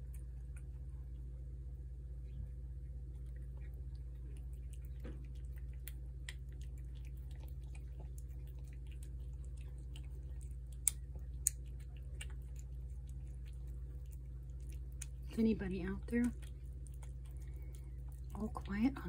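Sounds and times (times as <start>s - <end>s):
cat chewing wet food: 0.0s - 19.0s
steady low hum: 0.0s - 19.0s.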